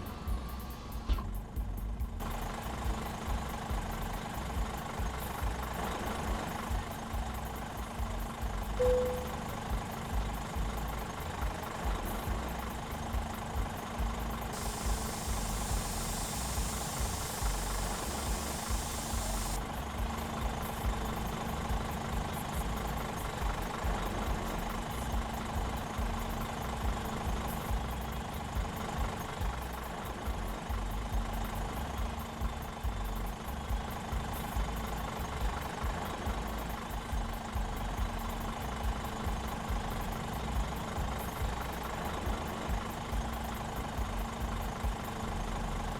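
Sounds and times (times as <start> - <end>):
hiss: 0.0 - 1.4, 2.2 - 45.9
truck diesel engine idling: 0.0 - 45.9.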